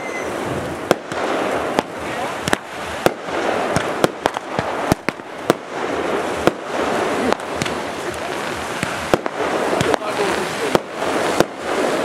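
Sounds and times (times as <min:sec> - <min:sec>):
continuous hiss: 0:00.0 - 0:12.0
fireworks bangs: 0:00.0 - 0:12.0.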